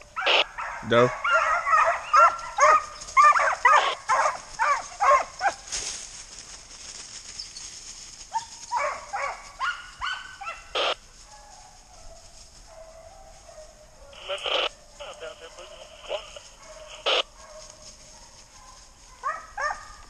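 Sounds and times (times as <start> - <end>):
hounds barking: 0.0 - 5.7, 8.3 - 20.0.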